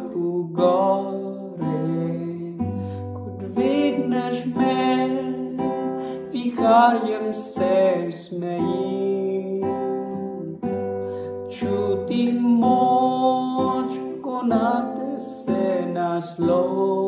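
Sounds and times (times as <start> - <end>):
man singing a slow ballad: 0.0 - 17.0
strummed acoustic guitar: 0.0 - 17.0.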